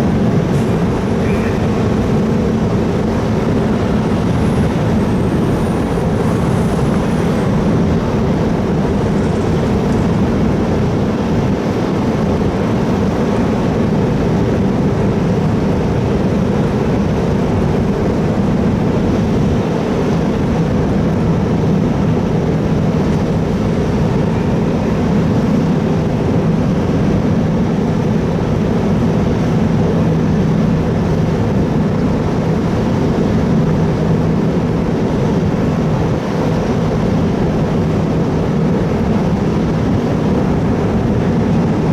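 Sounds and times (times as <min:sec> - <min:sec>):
ferry engines droning: 0:00.0 - 0:41.9.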